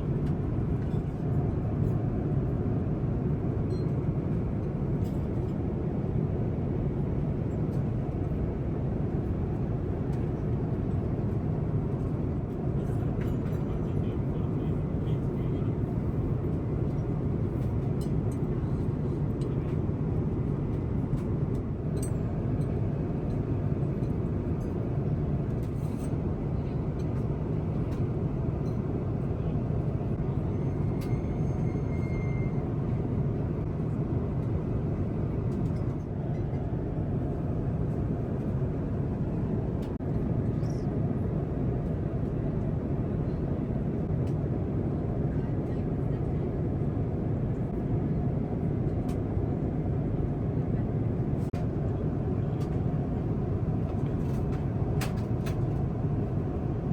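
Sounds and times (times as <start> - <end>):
aircraft cabin noise: 7.7 - 56.9.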